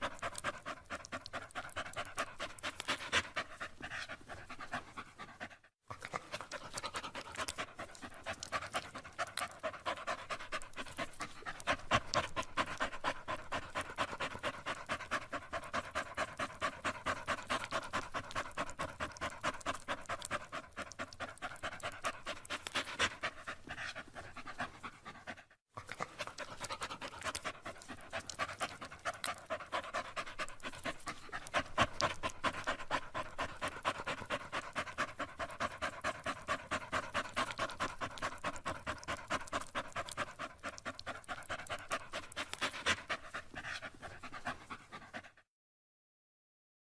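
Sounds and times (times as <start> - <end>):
dog panting: 0.0 - 45.5.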